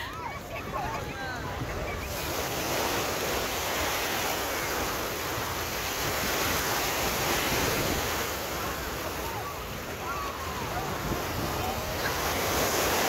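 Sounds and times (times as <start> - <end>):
small waves breaking on beach: 0.0 - 13.0.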